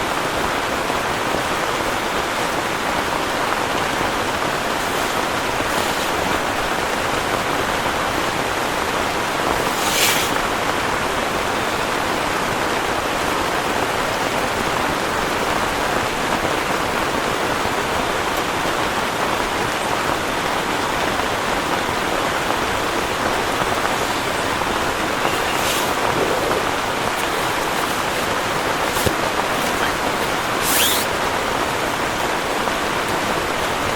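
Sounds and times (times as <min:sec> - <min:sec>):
heavy rain hissing: 0:00.0 - 0:33.9.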